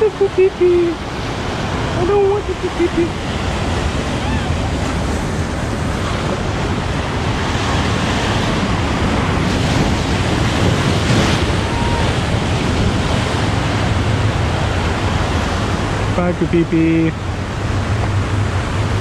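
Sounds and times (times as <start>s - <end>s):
wave crashing over rocks: 0.0s - 16.3s
surf washing over rocks: 0.0s - 19.0s.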